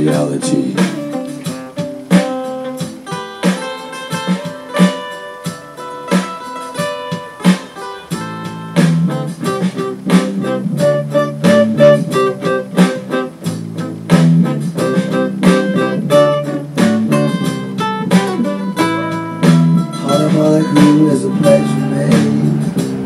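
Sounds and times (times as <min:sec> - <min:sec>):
guitar music: 0:00.0 - 0:23.0.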